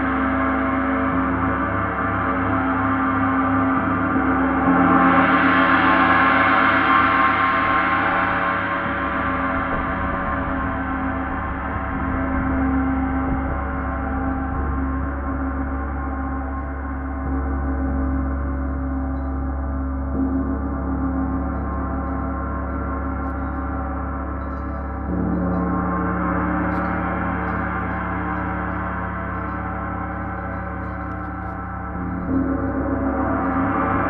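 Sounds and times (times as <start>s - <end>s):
gong played with mallet: 0.0s - 34.0s.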